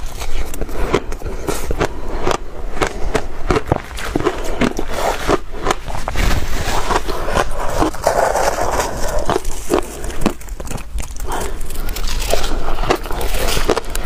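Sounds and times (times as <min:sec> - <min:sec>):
ice being chewed and crunched: 0:00.0 - 0:14.0.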